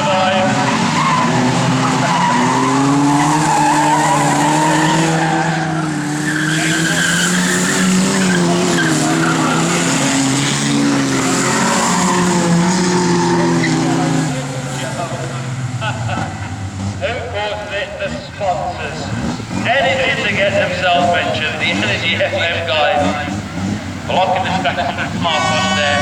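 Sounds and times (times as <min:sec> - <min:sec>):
racing car engines revving: 0:00.0 - 0:26.0
tyres skidding: 0:00.0 - 0:26.0.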